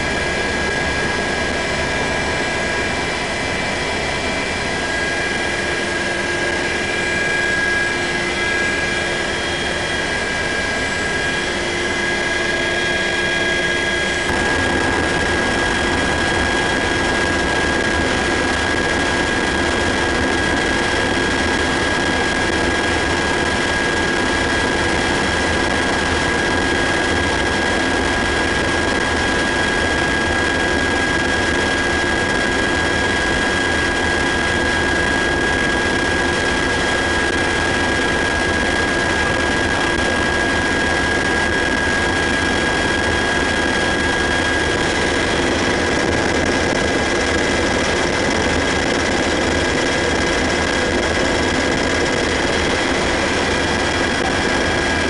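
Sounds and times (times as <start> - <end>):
high steady whine: 0.0 - 55.0.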